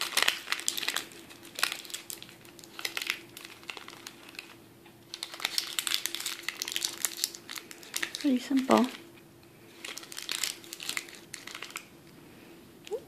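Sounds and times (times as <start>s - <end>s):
paper crinkling: 0.0s - 11.9s.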